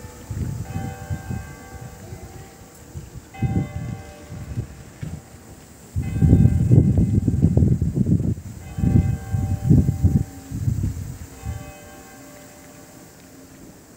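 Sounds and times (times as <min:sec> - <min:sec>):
tower clock bell striking: 0:00.0 - 0:05.4, 0:06.0 - 0:07.6, 0:08.5 - 0:10.6, 0:11.3 - 0:13.6
wind gusts buffeting microphone: 0:00.0 - 0:13.9.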